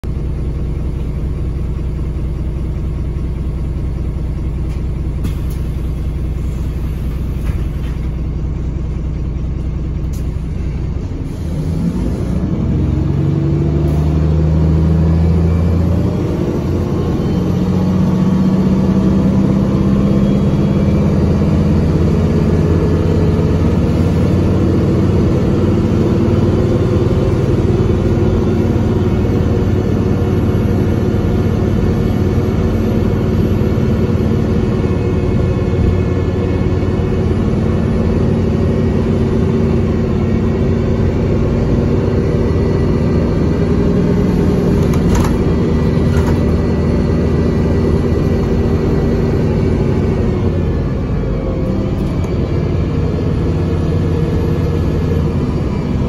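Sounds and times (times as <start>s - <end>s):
bus diesel engine revving: 0.0s - 56.0s.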